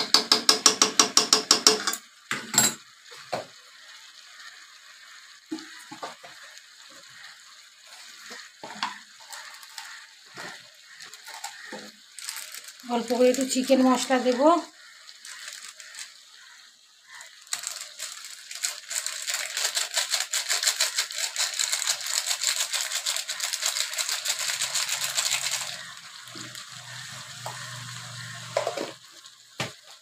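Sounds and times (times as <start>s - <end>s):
chicken frying in oil: 0.0s - 30.0s.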